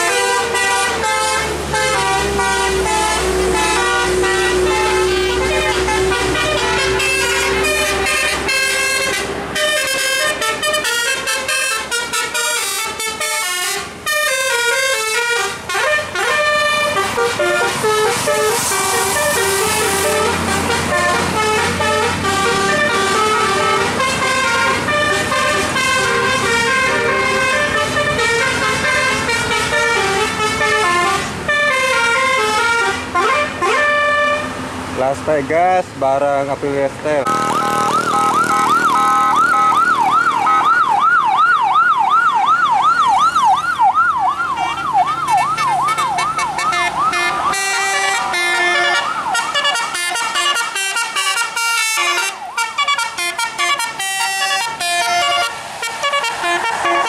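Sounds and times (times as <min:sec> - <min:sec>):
musical air horn melody: 0:00.0 - 0:34.6, 0:37.2 - 0:40.9, 0:44.5 - 0:57.0.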